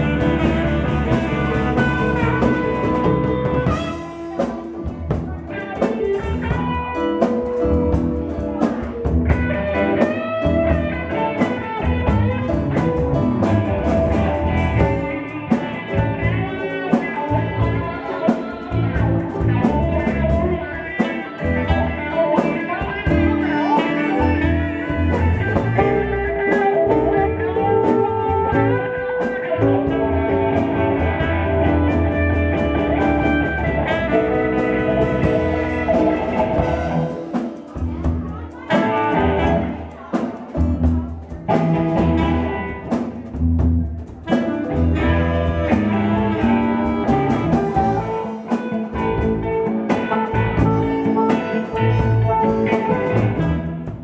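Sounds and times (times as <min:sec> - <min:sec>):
drums: 0:00.0 - 0:54.0
electric guitar lead: 0:00.0 - 0:54.0
live blues band playing: 0:00.0 - 0:54.0.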